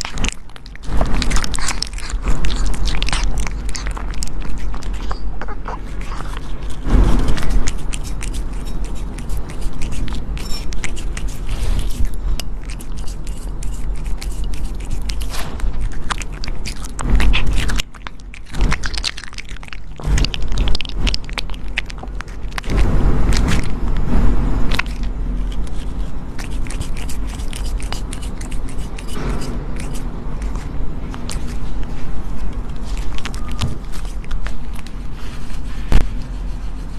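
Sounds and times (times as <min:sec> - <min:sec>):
animal crunching and chewing: 0:00.0 - 0:36.9.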